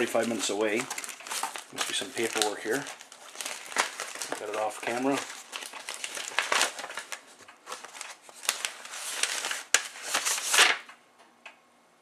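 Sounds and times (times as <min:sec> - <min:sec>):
paper and packaging crinkling: 0:00.0 - 0:10.9.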